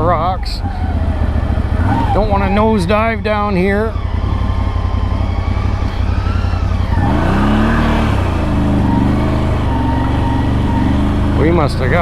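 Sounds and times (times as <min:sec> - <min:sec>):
atv engine running in low gear: 0:00.0 - 0:12.0.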